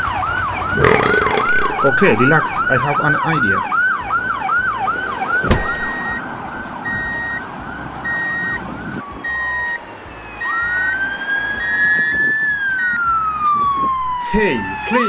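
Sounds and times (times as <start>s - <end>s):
electronic siren yelping: 0.0s - 9.8s, 10.4s - 15.0s.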